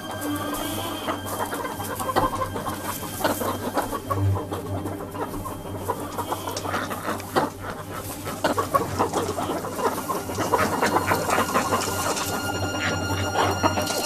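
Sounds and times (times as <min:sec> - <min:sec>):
hens clucking: 0:00.0 - 0:14.0
hens pecking and scratching in straw: 0:00.0 - 0:14.0.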